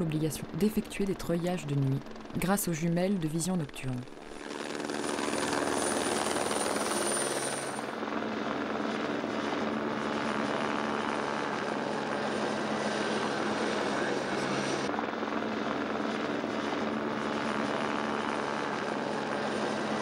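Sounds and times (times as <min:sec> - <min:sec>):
helicopter flying: 0:00.0 - 0:20.0.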